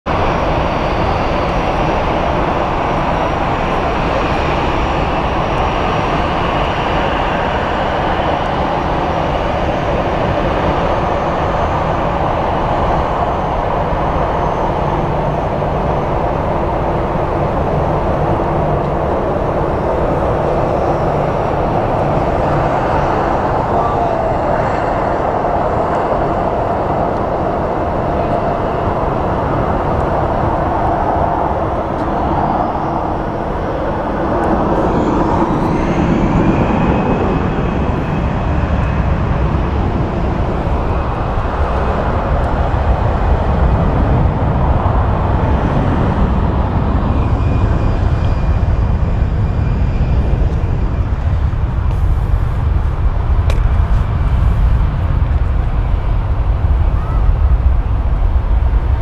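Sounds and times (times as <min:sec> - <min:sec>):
jet engines taxiing: 0:00.1 - 0:59.0.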